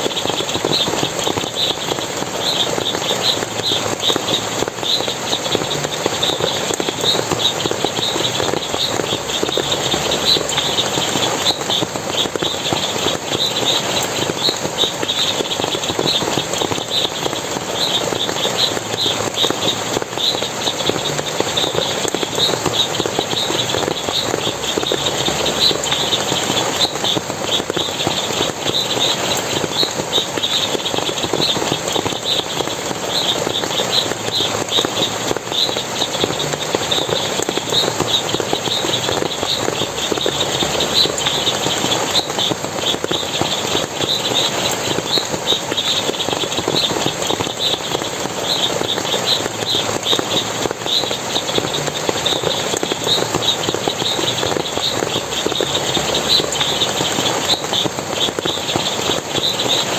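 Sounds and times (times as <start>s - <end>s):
rapid high-pitched chirps: 0.0s - 59.9s
water splashing and running: 0.0s - 59.9s.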